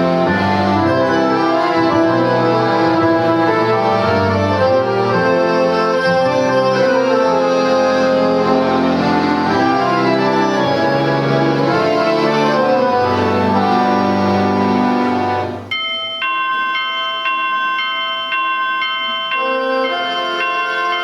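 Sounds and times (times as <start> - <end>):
accordion orchestra playing: 0.0 - 15.7, 19.4 - 21.0.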